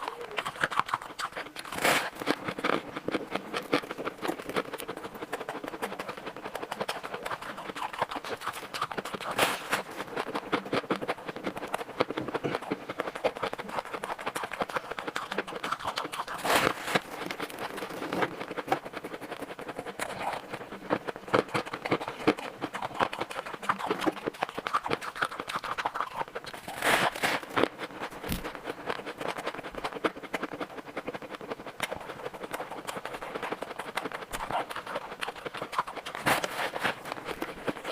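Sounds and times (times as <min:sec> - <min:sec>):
chewing crunchy ice: 0:00.0 - 0:37.9.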